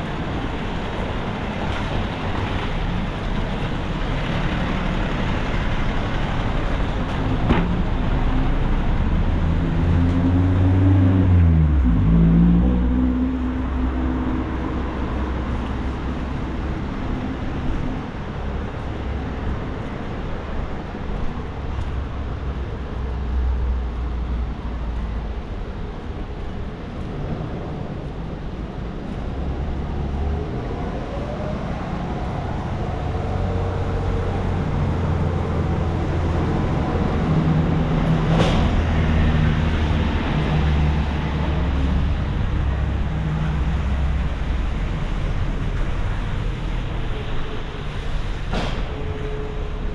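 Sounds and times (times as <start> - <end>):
rain and tyres hissing: 0.0 - 49.9
vehicle engines passing: 0.0 - 49.9.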